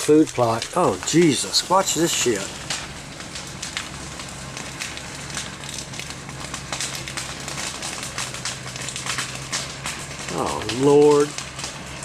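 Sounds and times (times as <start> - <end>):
brush fire crackling and popping: 0.0 - 12.0.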